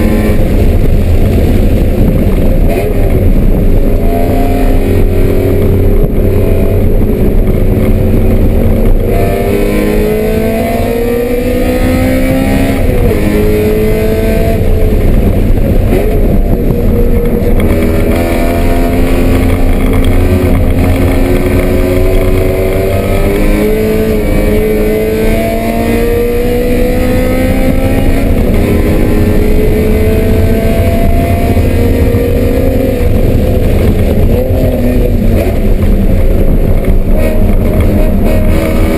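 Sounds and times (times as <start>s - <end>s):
race car engine at full throttle: 0.0s - 38.9s
road and wind noise: 0.0s - 38.9s.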